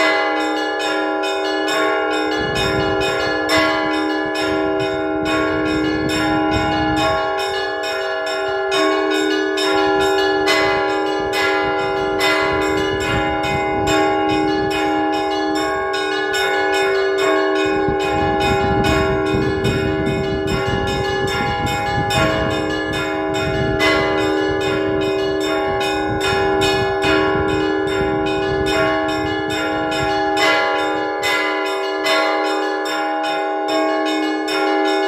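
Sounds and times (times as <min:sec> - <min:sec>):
low bells ringing: 0:00.0 - 0:35.0
small church bells struck quickly: 0:00.0 - 0:35.0.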